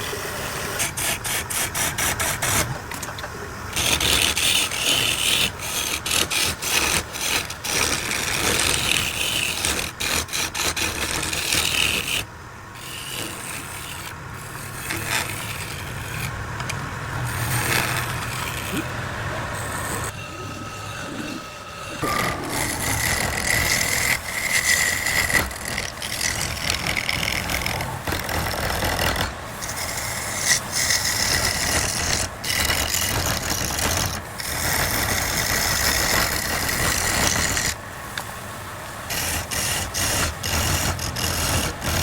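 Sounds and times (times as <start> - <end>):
wood lathe tool scraping wood: 0.0 - 38.2, 39.1 - 42.0.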